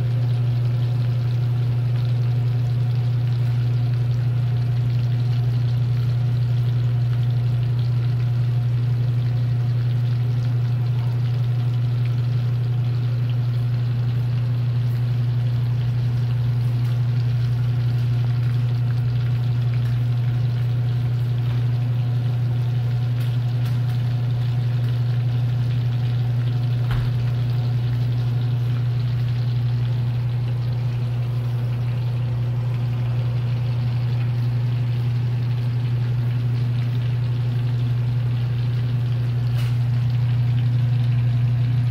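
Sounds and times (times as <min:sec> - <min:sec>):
cutlets sizzling in oil: 0:00.0 - 0:41.9
low machine hum: 0:00.0 - 0:41.9.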